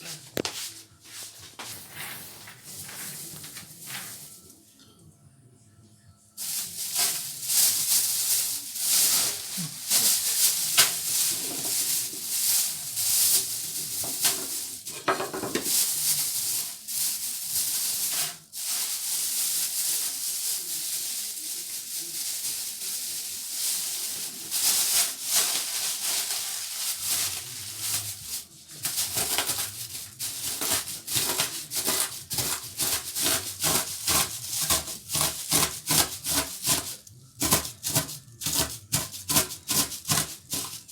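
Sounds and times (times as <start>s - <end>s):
food being scraped and rubbed by hand: 0.0s - 4.5s, 6.4s - 40.9s.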